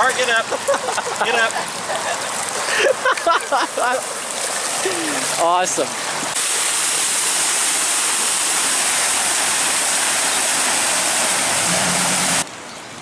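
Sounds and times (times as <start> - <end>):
floodwater rushing and spraying: 0.0 - 12.6.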